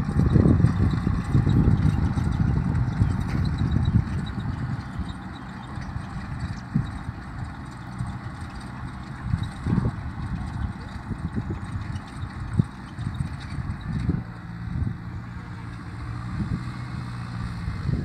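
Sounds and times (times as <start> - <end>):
distant tractor diesel engine: 0.0 - 18.0
wind rumbling on microphone: 0.0 - 18.0.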